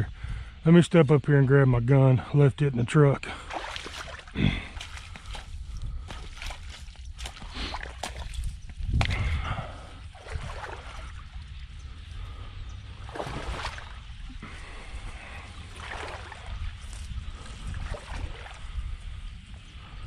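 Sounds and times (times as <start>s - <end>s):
wind rumbling on microphone: 0.0s - 2.3s, 3.2s - 20.0s
footsteps sloshing through water: 3.2s - 20.0s.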